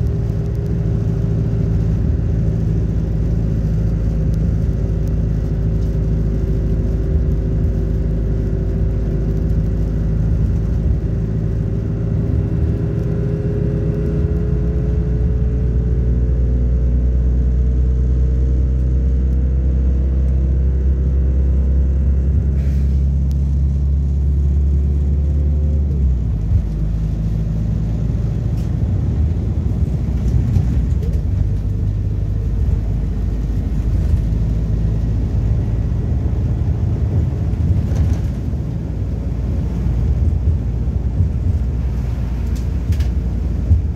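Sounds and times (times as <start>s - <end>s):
bus diesel engine: 0.0s - 43.9s
road rumble: 0.0s - 43.9s.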